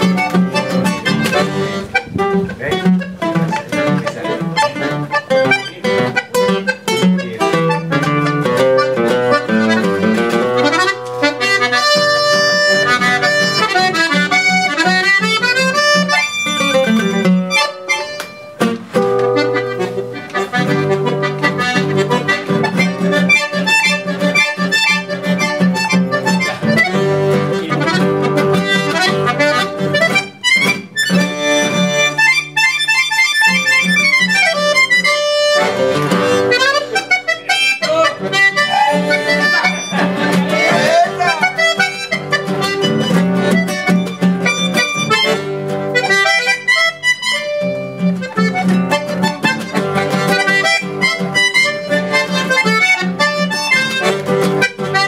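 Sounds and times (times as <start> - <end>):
button accordion melody: 0.0 - 55.0
classical guitar strummed chords: 0.0 - 55.0.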